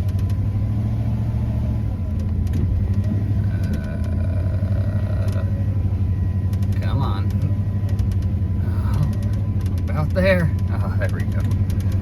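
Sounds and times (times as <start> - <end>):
truck engine straining: 0.0 - 12.0.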